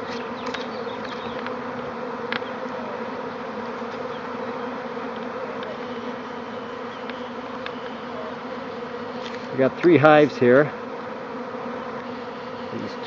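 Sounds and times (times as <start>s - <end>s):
honeybee swarm buzzing: 0.0s - 13.0s.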